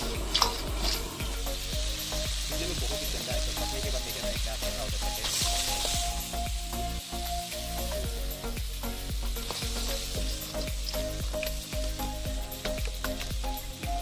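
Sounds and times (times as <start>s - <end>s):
crab sizzling in hot oil: 0.0s - 14.0s.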